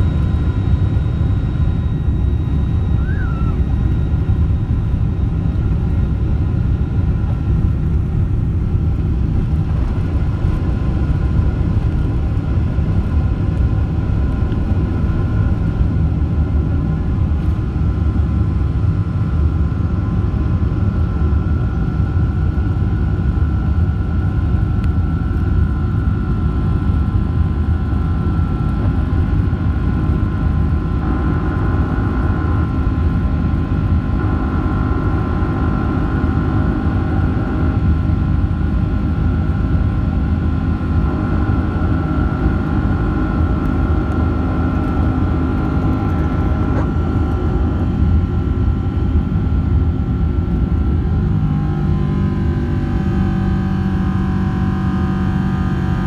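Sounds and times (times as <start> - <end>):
high fan whine: 0.0 - 56.0
jet engine rumble: 0.0 - 56.0.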